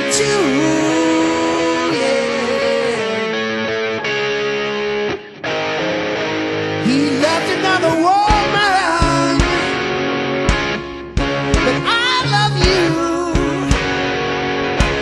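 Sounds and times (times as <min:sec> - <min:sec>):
blues-rock band playing: 0:00.0 - 0:15.0
electric guitar gliding notes: 0:00.0 - 0:15.0.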